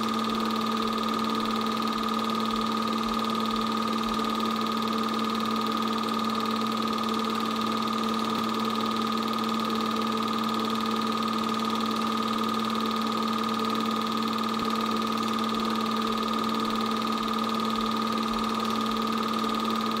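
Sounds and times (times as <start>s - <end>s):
film projector motor hum: 0.0s - 20.0s.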